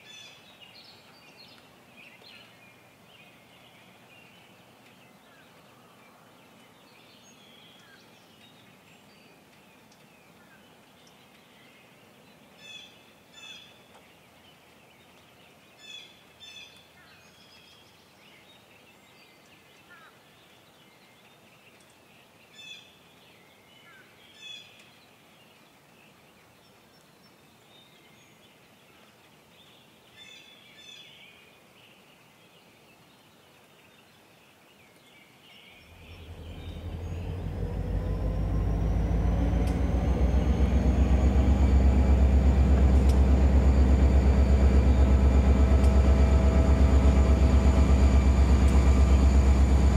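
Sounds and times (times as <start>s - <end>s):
distant birdsong chatter: 0.0s - 49.9s.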